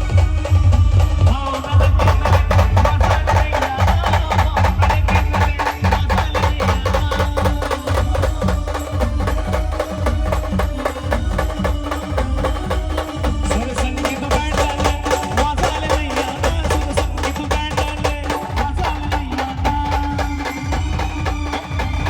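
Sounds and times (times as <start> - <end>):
fast dense drumming: 0.0 - 22.0.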